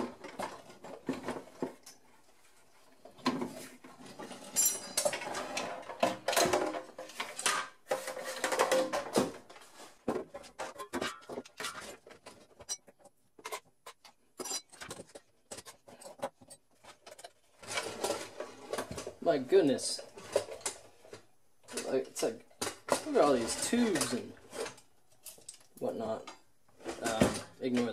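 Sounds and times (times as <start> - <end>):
plastic parts clattering and scraping: 0.0 - 27.9.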